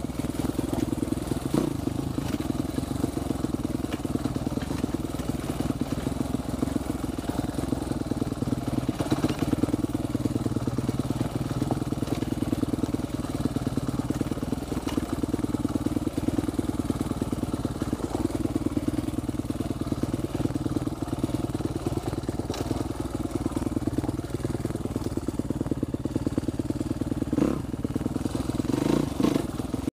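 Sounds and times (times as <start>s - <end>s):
dirt bike engine running: 0.0s - 29.9s.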